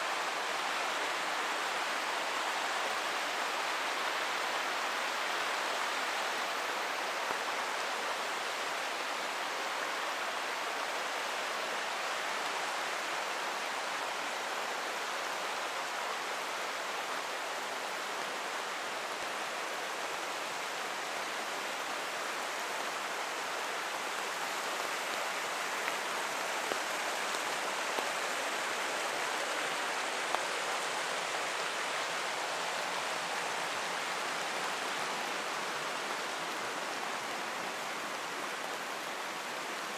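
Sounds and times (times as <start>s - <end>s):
falling rain: 0.0s - 39.9s
forest creek rushing: 0.0s - 39.9s.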